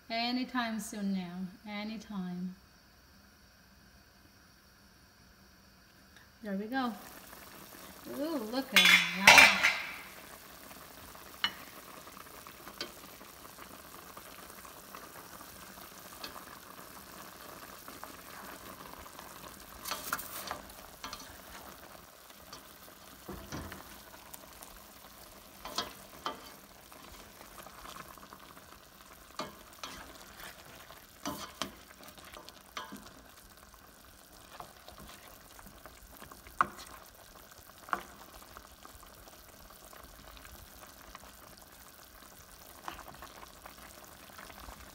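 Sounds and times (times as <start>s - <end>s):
sauce bubbling in pot: 7.0s - 44.9s.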